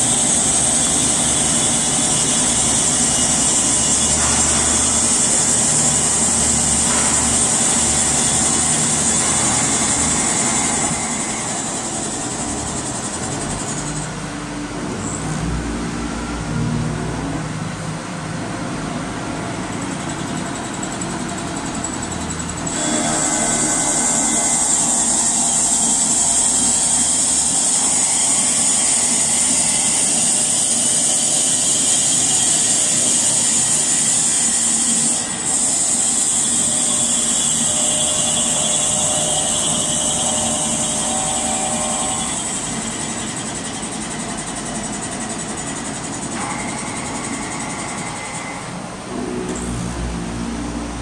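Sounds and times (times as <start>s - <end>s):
machine mechanical noise: 0.0s - 51.0s.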